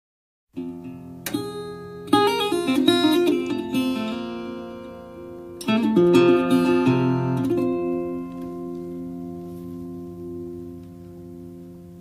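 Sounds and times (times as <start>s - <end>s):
acoustic guitar picking and strumming: 0.6s - 12.0s.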